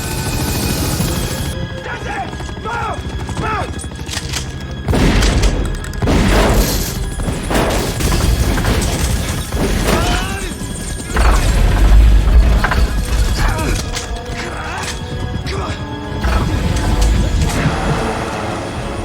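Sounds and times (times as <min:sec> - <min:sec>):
action film music: 0:00.0 - 0:19.0.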